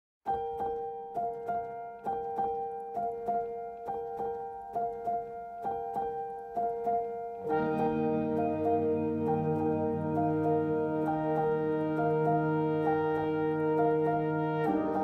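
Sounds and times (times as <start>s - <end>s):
keyboard music: 0.3s - 15.0s.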